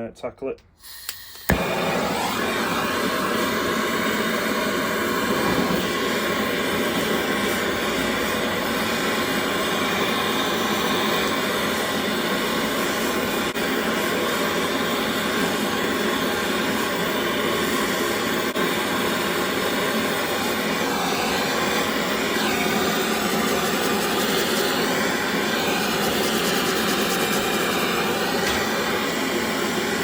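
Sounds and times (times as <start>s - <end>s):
blowtorch flame hissing: 0.8s - 30.0s.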